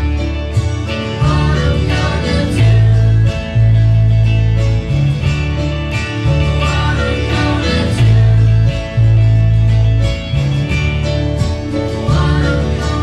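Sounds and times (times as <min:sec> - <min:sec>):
bass guitar notes: 0:00.0 - 0:13.0
electric guitar: 0:00.0 - 0:13.0
keyboard chords: 0:00.0 - 0:13.0.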